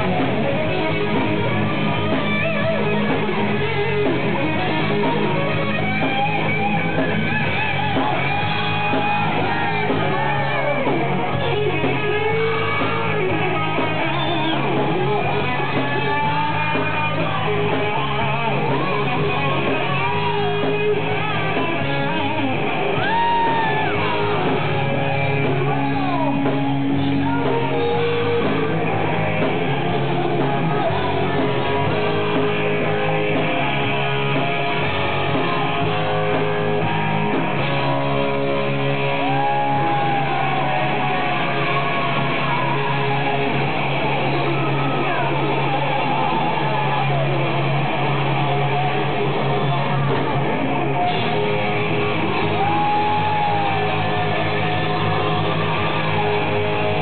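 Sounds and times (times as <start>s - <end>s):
distorted electric guitars: 0.0s - 57.0s
drums: 0.0s - 57.0s
heavy metal band playing: 0.0s - 57.0s.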